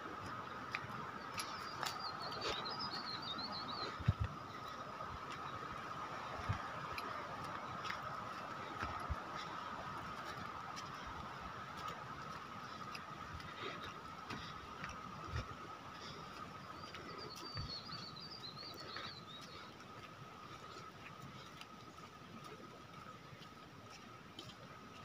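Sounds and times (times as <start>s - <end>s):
footsteps on dirt trail: 0.0s - 25.0s.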